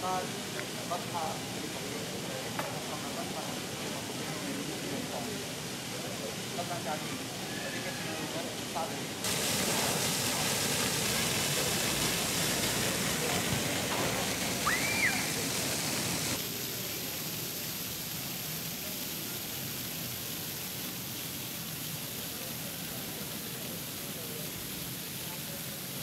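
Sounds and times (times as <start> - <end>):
fountain water splashing: 0.0 - 26.0
steady hiss: 0.0 - 26.0.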